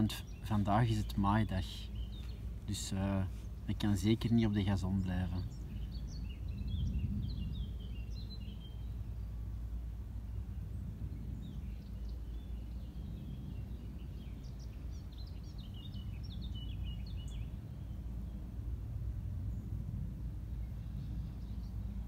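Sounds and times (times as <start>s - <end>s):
small bird chirping: 0.0s - 18.5s
low outdoor rumble: 0.0s - 22.0s.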